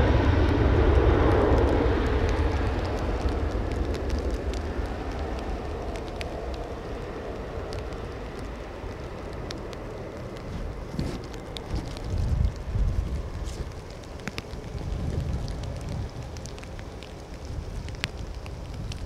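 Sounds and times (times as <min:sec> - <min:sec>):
jet airliner engine rumble: 0:00.0 - 0:19.0
raindrops ticking: 0:00.0 - 0:19.0
steady rain: 0:00.0 - 0:19.0.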